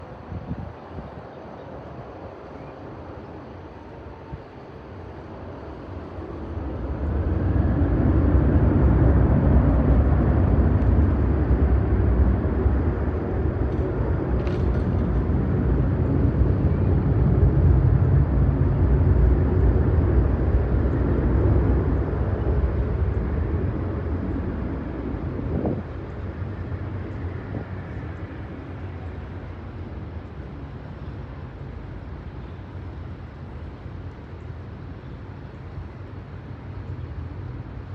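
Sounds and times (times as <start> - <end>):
jet airliner flying overhead: 0.0 - 37.9.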